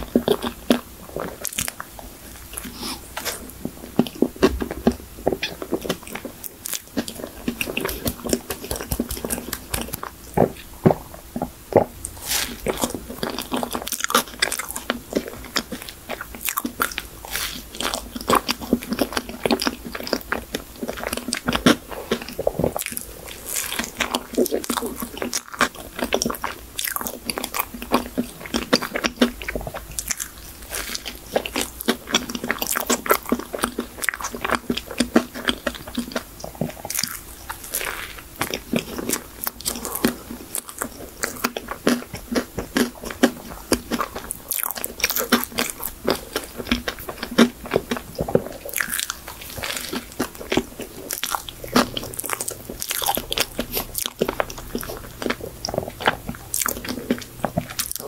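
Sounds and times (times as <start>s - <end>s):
chewing cake with crunches: 0.0s - 58.0s.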